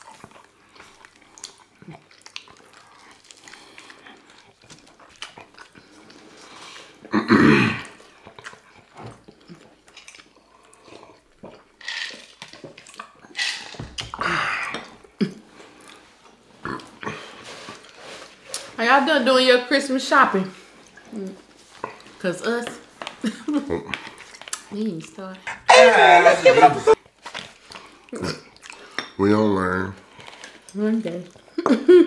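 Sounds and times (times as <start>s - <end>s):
people chewing and lip-smacking: 0.0s - 7.2s, 7.8s - 18.8s, 20.6s - 22.2s, 22.8s - 29.2s, 30.0s - 31.9s.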